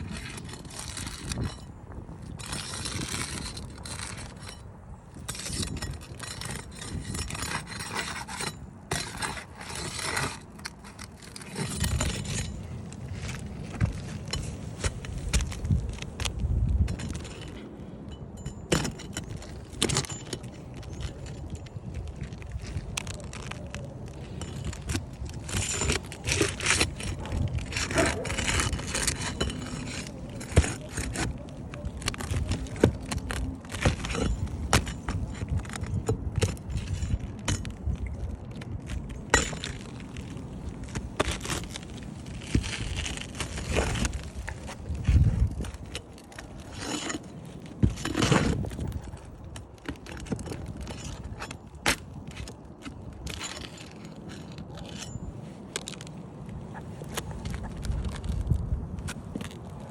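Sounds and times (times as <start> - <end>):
hands and tools scraping shingles: 0.0 - 59.9.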